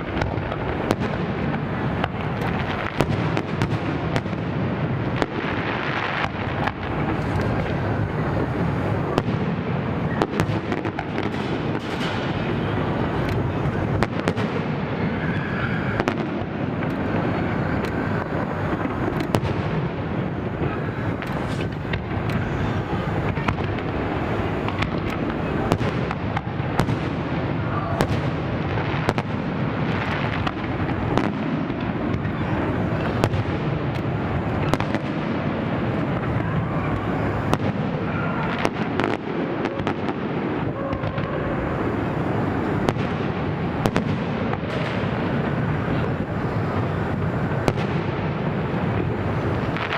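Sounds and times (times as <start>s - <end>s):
rumble of firework bursts: 0.0s - 49.9s
sharp firework bangs: 0.0s - 49.9s.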